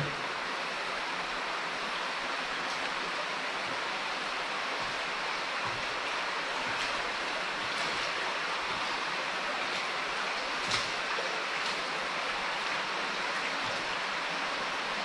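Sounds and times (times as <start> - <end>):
water rushing through tunnel: 0.0 - 15.0.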